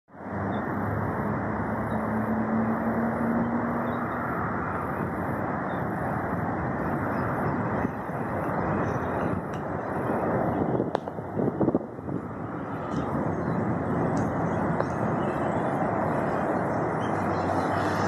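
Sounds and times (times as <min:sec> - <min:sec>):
low engine hum: 0:00.1 - 0:18.0
road and vehicle noise: 0:00.1 - 0:18.0.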